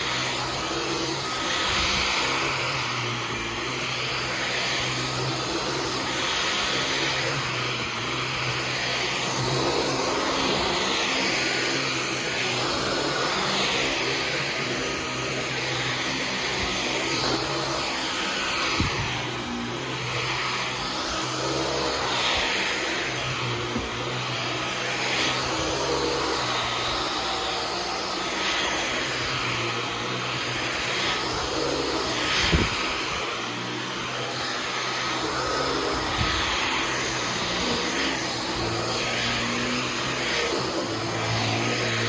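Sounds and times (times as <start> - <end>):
vacuum cleaner motor whine: 0.0 - 42.0.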